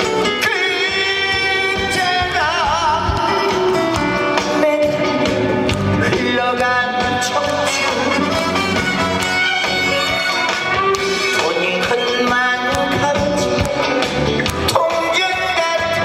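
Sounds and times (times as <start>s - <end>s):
band accompaniment: 0.0s - 16.0s
person singing with vibrato: 0.0s - 16.0s.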